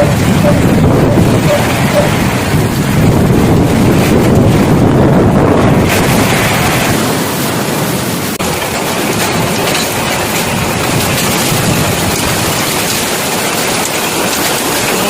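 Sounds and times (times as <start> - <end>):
heavy rain pouring: 0.0 - 15.0
wind buffeting microphone: 0.0 - 15.0.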